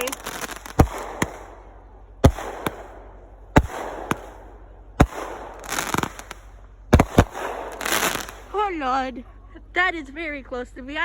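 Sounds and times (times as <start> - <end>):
fireworks bangs: 0.0 - 8.9
fireworks crackling: 0.0 - 9.1.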